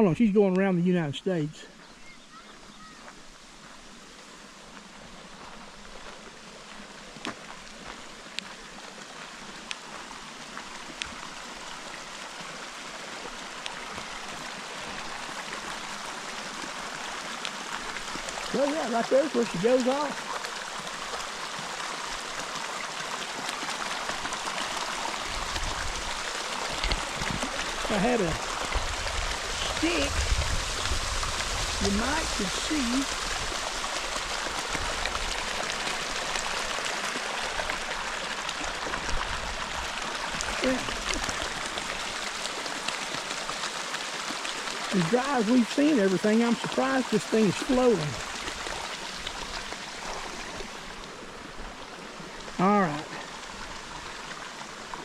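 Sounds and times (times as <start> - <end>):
small waterfall splashing: 0.0 - 55.0
stream trickling: 0.0 - 55.0
water drips and ticks: 0.1 - 1.9, 3.0 - 55.0.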